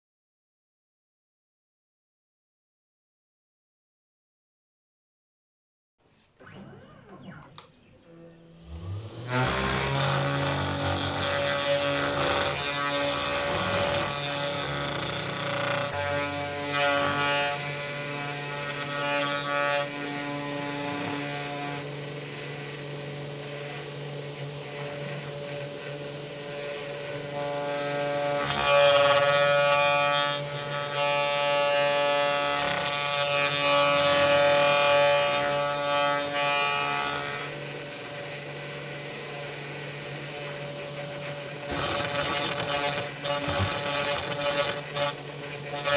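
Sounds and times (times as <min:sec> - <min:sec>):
router bit cutting wood: 0:06.4 - 0:45.9
router spindle whine: 0:06.4 - 0:45.9.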